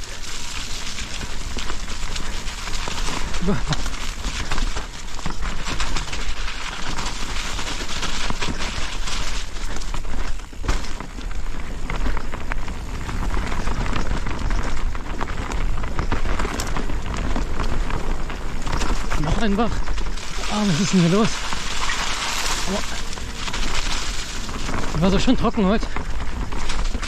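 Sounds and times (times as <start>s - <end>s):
bike rattles and knocks: 0.0s - 27.0s
bike tyres crackling over dirt: 0.0s - 27.0s.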